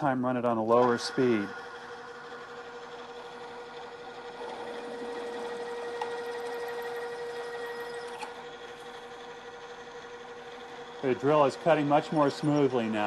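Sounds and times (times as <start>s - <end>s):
drilling machine humming: 0.0s - 13.0s.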